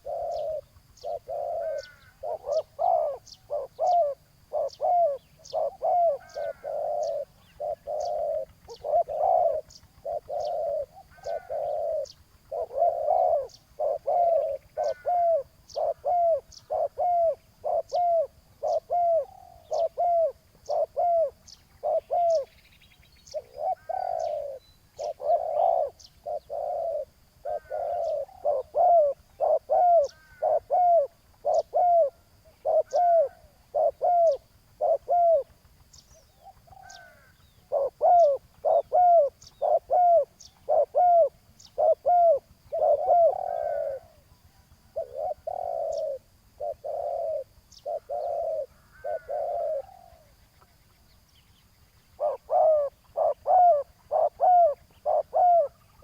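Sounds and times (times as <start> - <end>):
doves cooing: 0.0 - 22.6, 23.2 - 50.8, 52.0 - 56.0.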